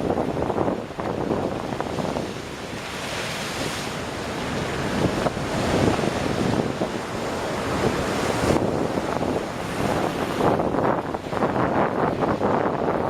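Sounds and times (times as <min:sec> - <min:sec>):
ocean waves breaking on rocks: 0:00.0 - 0:13.0
wind buffeting microphone: 0:00.0 - 0:13.0.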